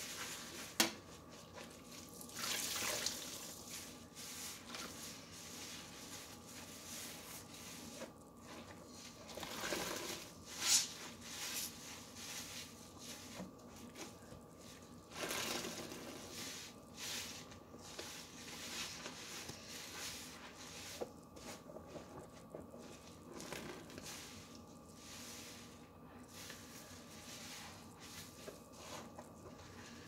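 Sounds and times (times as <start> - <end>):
soapy sponge squishing: 0.0 - 30.0.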